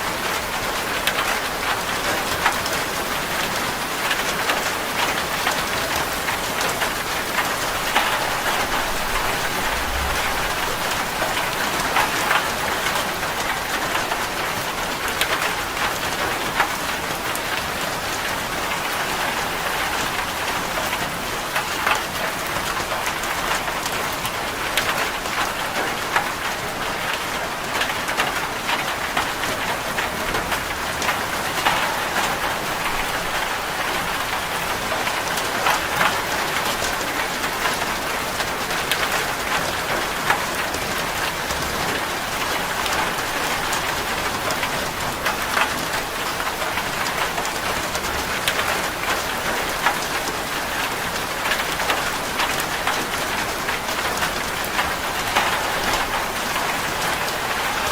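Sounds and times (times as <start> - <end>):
rain on a metal roof: 0.0 - 57.9.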